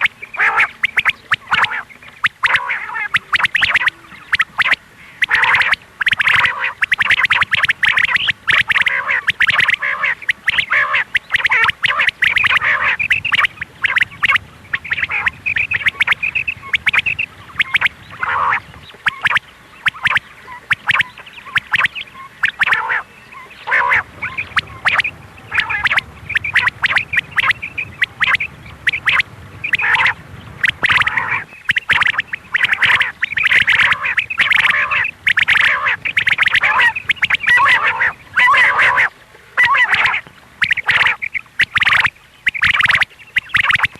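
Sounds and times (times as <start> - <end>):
quail calling: 0.0 - 43.9.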